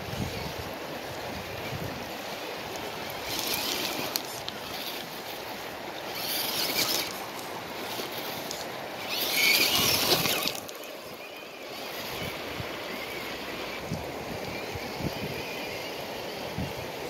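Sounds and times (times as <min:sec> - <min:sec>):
water rushing on stony shore: 0:00.0 - 0:17.0.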